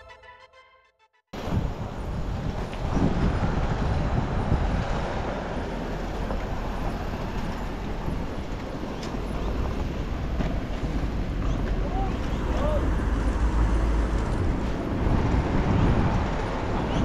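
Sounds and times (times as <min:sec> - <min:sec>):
road traffic rumble and hiss: 0:01.4 - 0:17.0.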